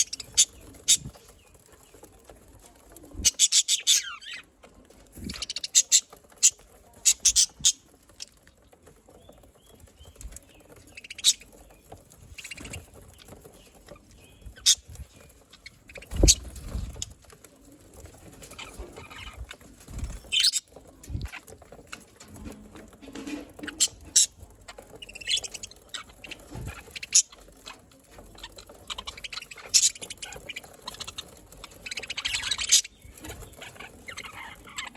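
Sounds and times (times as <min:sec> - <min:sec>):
budgerigars chirping and warbling: 0:00.0 - 0:02.1, 0:03.0 - 0:04.5, 0:05.1 - 0:17.2, 0:18.3 - 0:22.5, 0:23.1 - 0:34.9.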